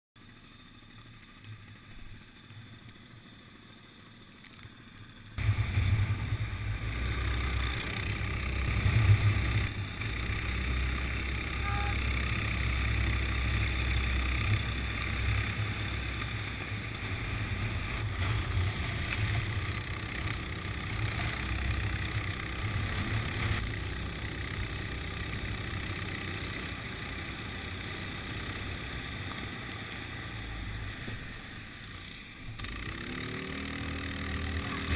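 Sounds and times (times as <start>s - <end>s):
go-kart engine running: 0.2s - 34.9s.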